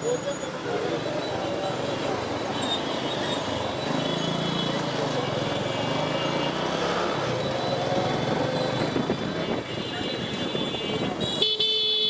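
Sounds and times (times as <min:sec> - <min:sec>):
road traffic engines running: 0:00.0 - 0:12.0.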